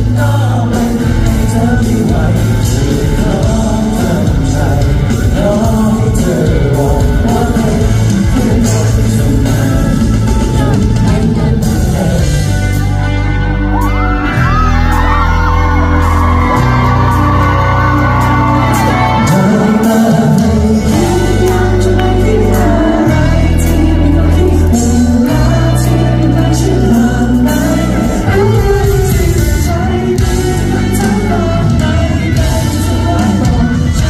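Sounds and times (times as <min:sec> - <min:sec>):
live pop music with singing: 0:00.0 - 0:34.0.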